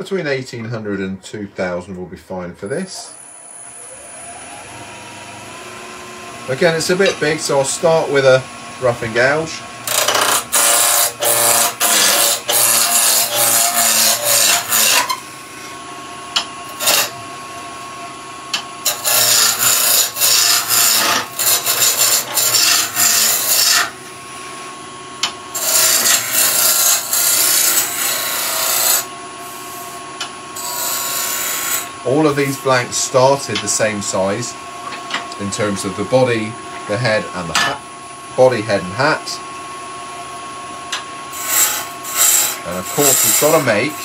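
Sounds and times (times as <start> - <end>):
lathe whine: 3.0 - 44.0.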